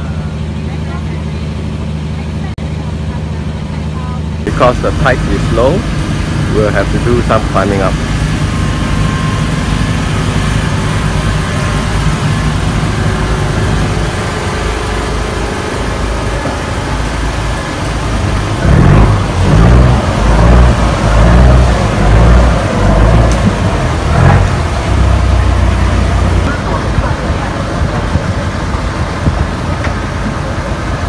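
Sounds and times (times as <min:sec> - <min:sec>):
boat engine idling: 0:00.0 - 0:31.0.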